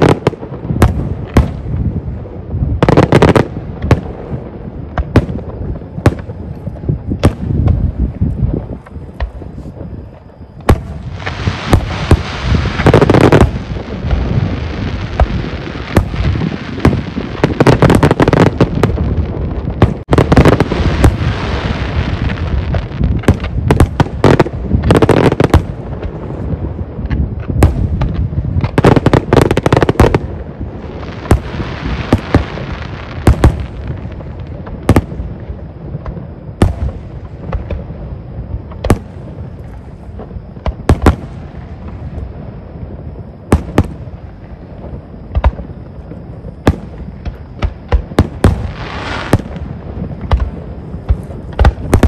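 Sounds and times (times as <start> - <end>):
fireworks bangs: 0.0 - 52.0
fireworks crackling: 0.0 - 52.0.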